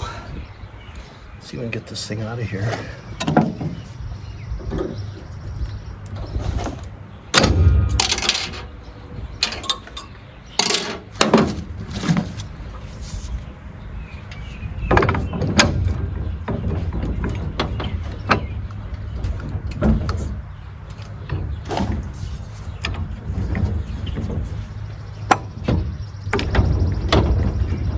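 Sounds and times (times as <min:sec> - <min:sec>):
heavy metal thuds and clunks: 0:02.8 - 0:12.3, 0:14.7 - 0:27.9.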